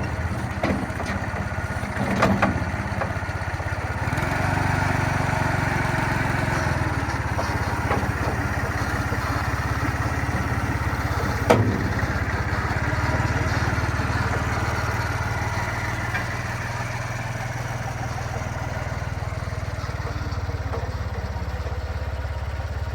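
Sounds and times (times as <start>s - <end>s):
forklift engine running: 0.0s - 22.9s.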